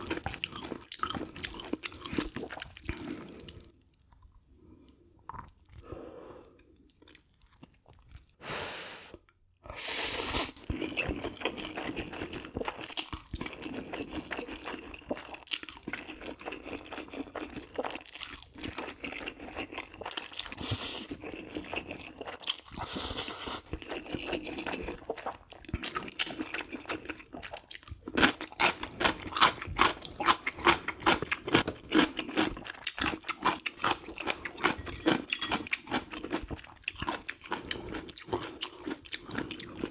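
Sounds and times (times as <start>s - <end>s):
chewing food: 0.0s - 4.4s, 5.2s - 8.4s, 10.6s - 39.9s.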